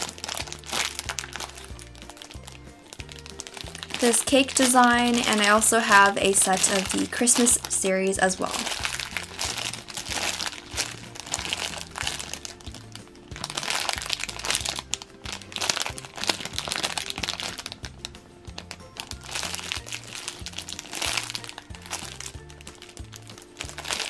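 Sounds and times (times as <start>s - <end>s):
background music with bass line: 0.0s - 24.0s
plastic bags crinkling: 0.0s - 24.0s.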